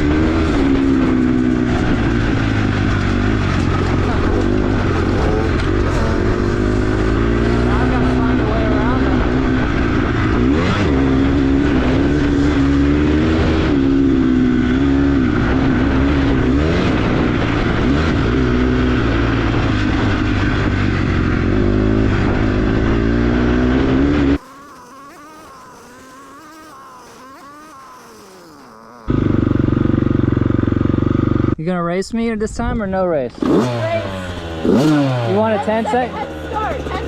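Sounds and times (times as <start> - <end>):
dirt bike engine revving: 0.0 - 31.6, 33.3 - 37.0.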